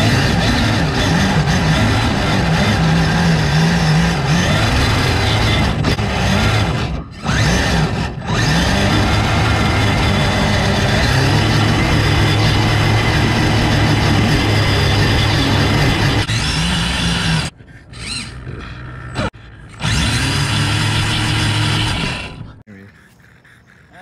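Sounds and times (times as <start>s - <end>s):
electric motor whine and grinding: 0.0s - 22.7s.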